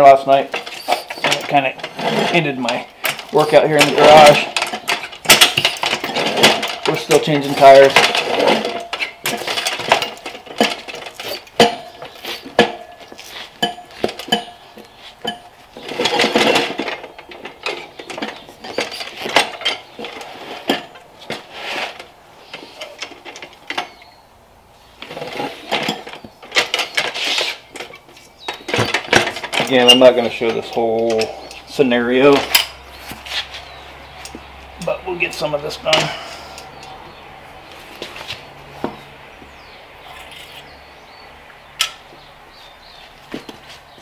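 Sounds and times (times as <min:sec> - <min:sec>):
tire irons clanking on wheel rim: 0:00.0 - 0:24.2, 0:24.9 - 0:44.0.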